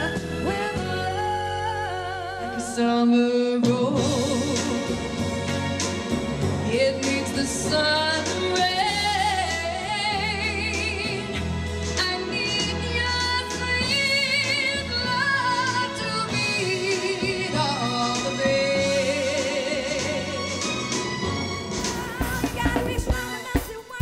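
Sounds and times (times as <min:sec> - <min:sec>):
woman singing pop-soul with band: 0:00.0 - 0:05.2, 0:06.6 - 0:20.6, 0:21.8 - 0:24.0.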